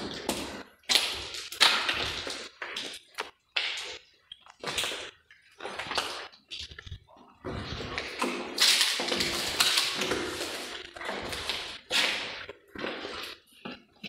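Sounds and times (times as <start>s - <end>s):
footsteps on gritty floor: 0.0s - 14.0s.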